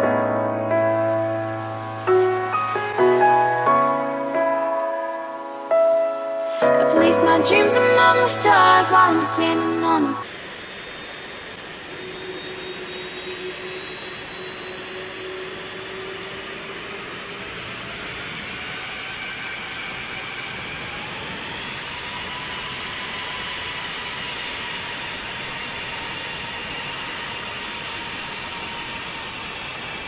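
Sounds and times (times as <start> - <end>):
high whines rising in pitch: 0.0 - 30.0
jet engines running: 0.0 - 30.0.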